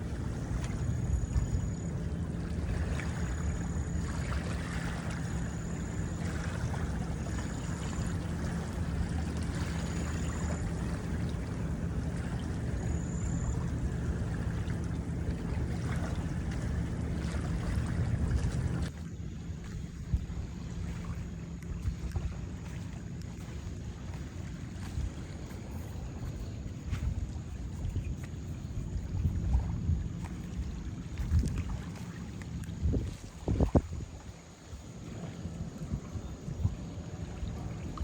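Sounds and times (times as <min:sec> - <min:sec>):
boat engine droning: 0:00.0 - 0:38.0
water wash: 0:00.0 - 0:38.0.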